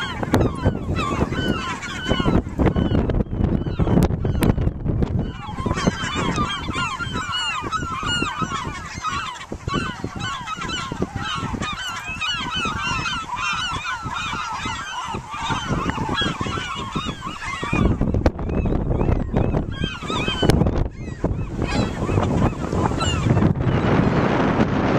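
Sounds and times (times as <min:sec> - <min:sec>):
seabirds calling: 0:00.0 - 0:24.2
wind rumbling on microphone: 0:00.0 - 0:24.9.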